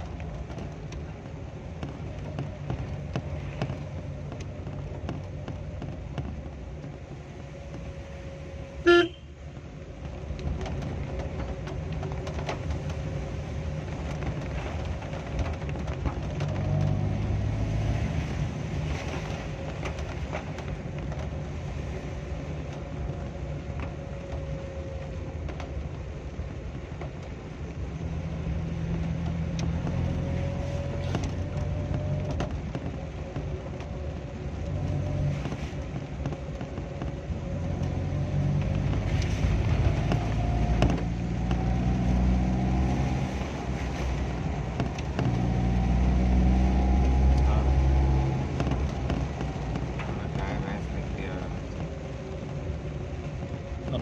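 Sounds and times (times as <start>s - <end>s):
road noise on wet road: 0.0s - 54.0s
vehicle engine rumble: 0.0s - 54.0s.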